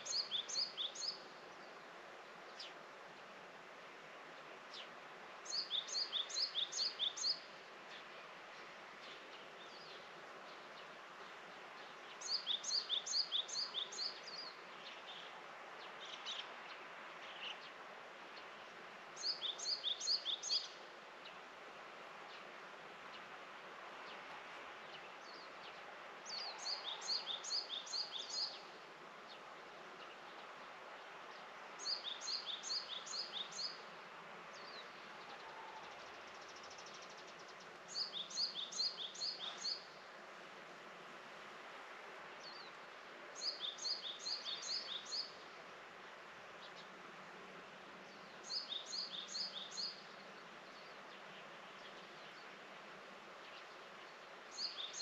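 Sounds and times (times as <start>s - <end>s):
songbird chirping: 0.0s - 2.8s, 4.7s - 21.5s, 24.0s - 30.6s, 31.2s - 40.1s, 42.4s - 45.6s, 47.9s - 52.7s, 53.4s - 55.0s
outdoor background hiss: 0.0s - 55.0s.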